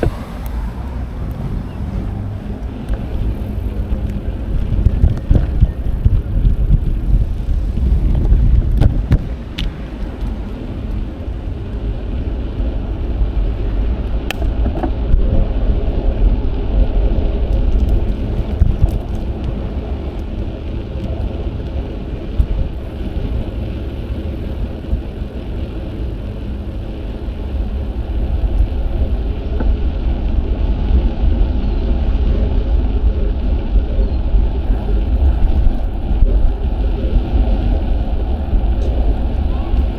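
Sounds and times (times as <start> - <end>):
road and tyre noise: 0.0 - 39.9
wind buffeting microphone: 0.0 - 39.9.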